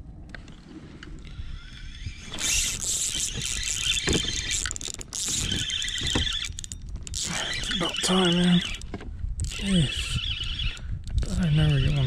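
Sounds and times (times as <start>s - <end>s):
fishing reel squealing: 1.3s - 12.0s.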